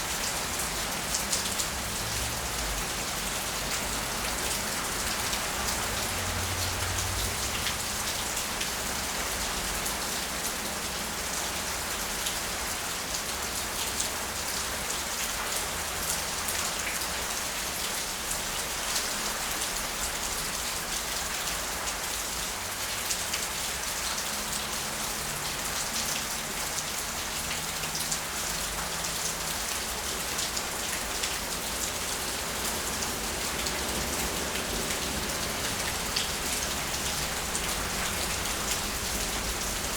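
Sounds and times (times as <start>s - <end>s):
heavy rain splashing: 0.0s - 39.9s.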